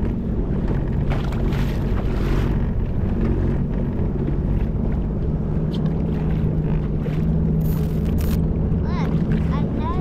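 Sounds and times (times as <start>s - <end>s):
jet ski engine running: 0.0s - 10.0s.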